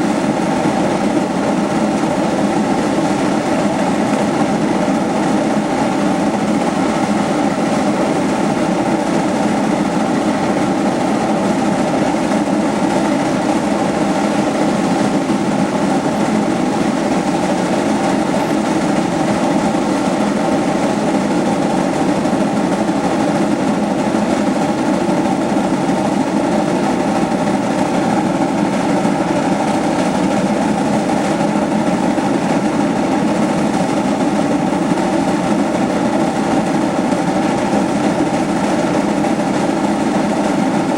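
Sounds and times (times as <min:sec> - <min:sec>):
steam locomotive rumbling: 0:00.0 - 0:40.9.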